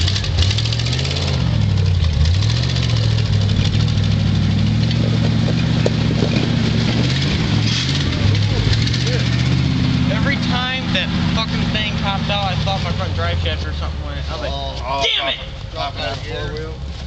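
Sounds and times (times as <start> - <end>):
suv engine revving: 0.0 - 17.0.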